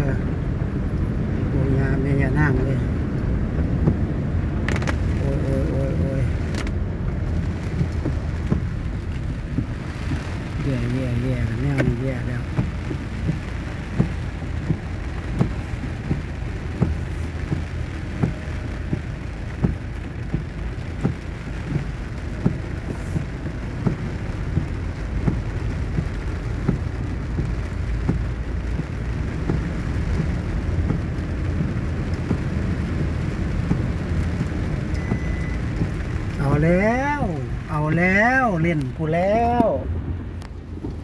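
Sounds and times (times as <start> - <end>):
heavy rain drumming on car roof: 0.0 - 41.0
low rumble of car: 0.0 - 41.0.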